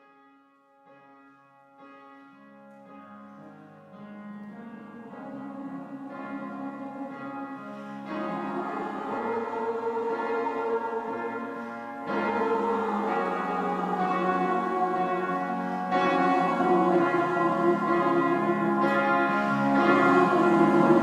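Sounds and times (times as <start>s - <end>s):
music of sustained chords: 2.5s - 21.0s.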